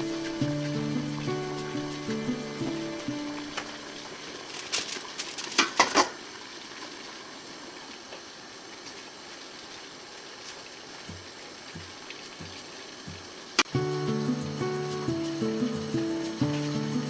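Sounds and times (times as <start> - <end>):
water boiling hiss: 0.0 - 17.0.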